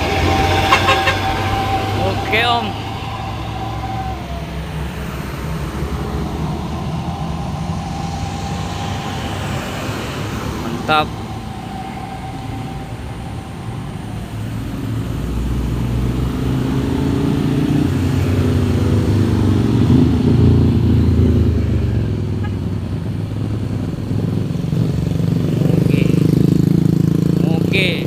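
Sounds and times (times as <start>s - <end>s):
truck diesel engine climbing: 0.0s - 28.0s.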